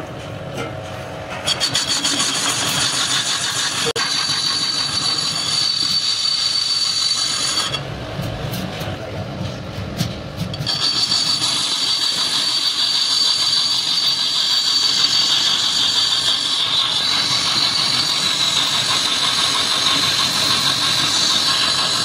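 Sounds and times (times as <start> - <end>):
high-pitched metallic ringing: 1.5 - 7.8, 10.6 - 22.0
metal lathe running: 1.5 - 7.8, 10.5 - 22.0.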